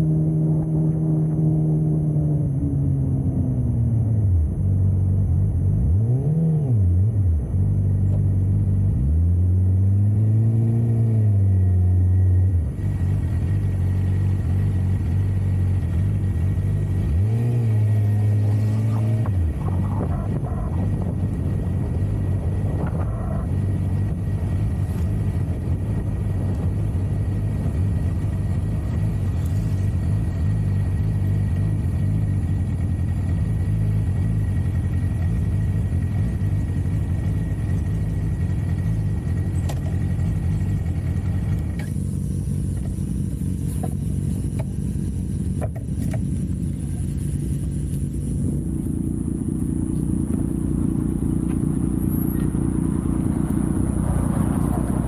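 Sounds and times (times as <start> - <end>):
deeper engine sound: 0.0 - 55.0
motorcycle engine running: 6.8 - 55.0.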